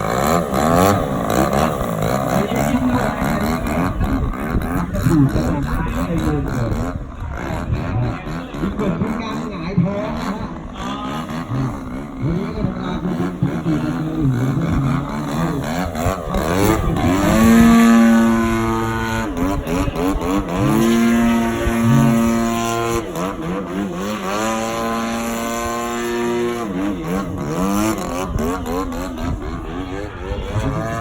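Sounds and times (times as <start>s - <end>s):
model plane engine in flight: 0.0s - 31.0s.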